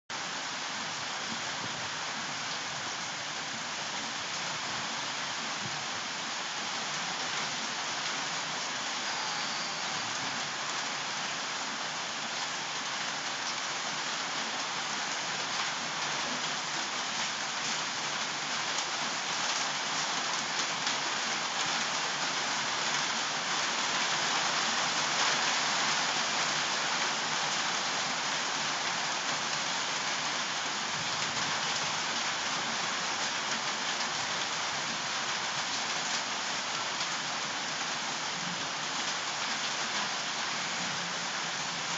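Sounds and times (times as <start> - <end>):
raindrops ticking on surfaces: 0.1 - 41.9
steady rain falling: 0.1 - 41.9.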